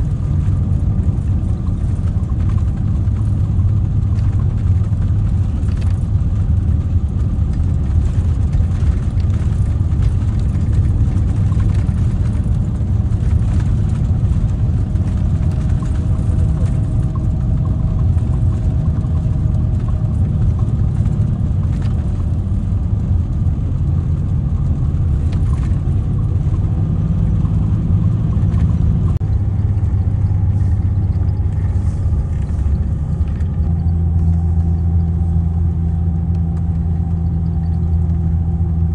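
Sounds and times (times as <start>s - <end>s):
bus diesel engine rumbling: 0.0s - 38.9s.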